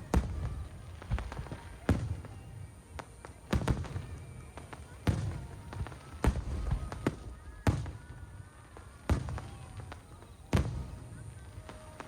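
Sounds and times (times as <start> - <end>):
firework shells booming: 0.0 - 12.0.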